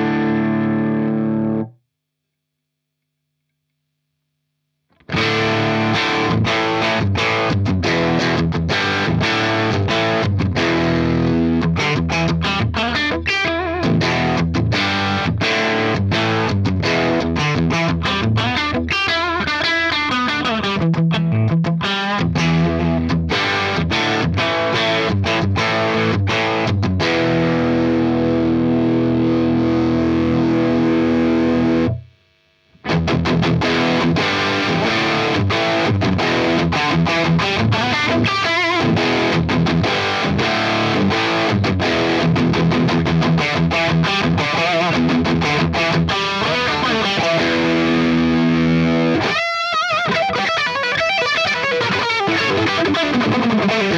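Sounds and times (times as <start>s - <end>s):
electric guitar through tube amp: 0.0s - 1.7s, 5.0s - 53.9s.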